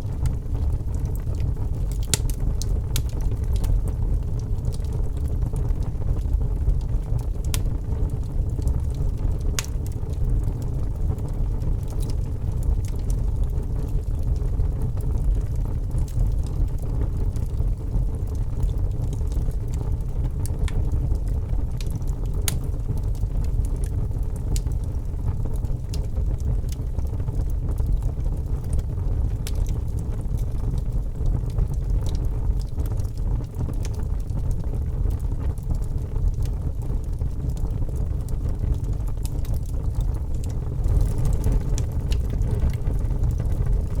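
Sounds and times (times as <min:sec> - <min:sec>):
burning wood crackling and popping: 0:00.0 - 0:44.0
fire flames rumbling: 0:00.0 - 0:44.0.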